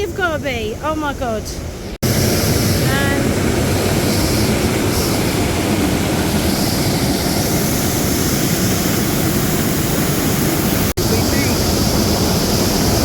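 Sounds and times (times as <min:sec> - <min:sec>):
waterfall roaring: 0:02.0 - 0:13.0.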